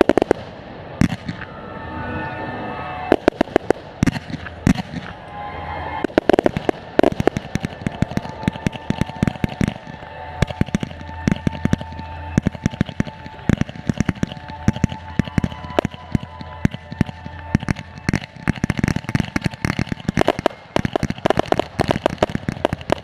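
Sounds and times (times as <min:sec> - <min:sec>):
fireworks cracking and banging: 0:00.0 - 0:01.6, 0:03.0 - 0:05.2, 0:06.0 - 0:23.0.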